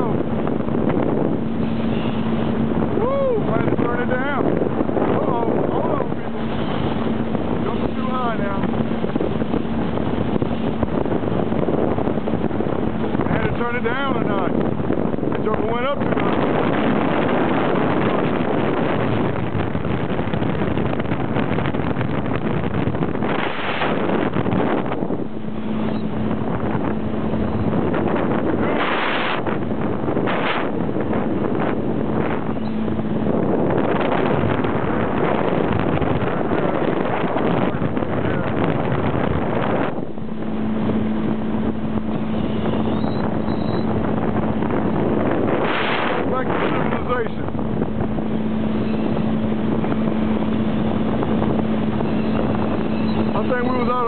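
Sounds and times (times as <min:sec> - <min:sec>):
boat motor droning: 0:00.0 - 0:54.0
wind buffeting microphone: 0:00.0 - 0:54.0.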